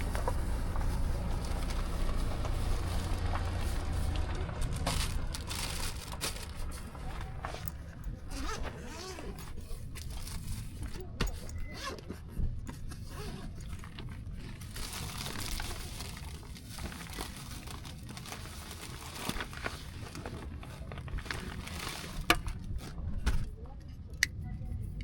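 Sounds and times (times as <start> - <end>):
material rustling and crinkling: 0.0 - 11.9, 12.9 - 23.6
low steady rumble: 0.0 - 25.0.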